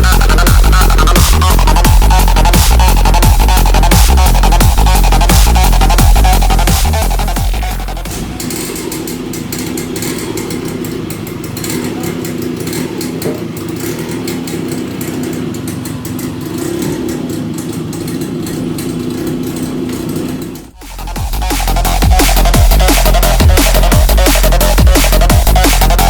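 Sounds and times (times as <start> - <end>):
two-stroke motorcycle engine idling: 0.0 - 26.0.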